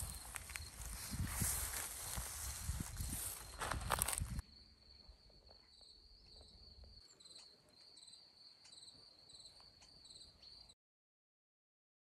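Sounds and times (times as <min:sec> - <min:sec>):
crickets chirping: 0:00.0 - 0:10.8.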